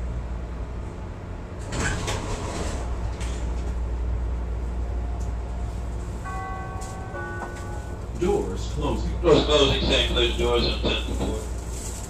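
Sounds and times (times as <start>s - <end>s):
train hum and rumble: 0.0s - 12.0s.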